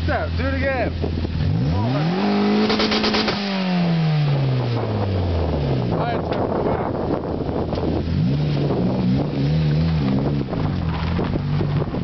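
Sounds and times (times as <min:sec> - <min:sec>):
car engine pulling away: 0:01.0 - 0:12.0.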